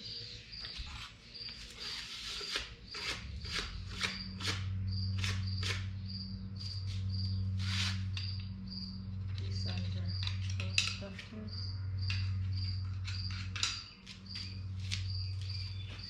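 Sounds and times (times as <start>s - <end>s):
cricket chirping: 0.0s - 16.0s
low steady hum: 0.0s - 16.0s.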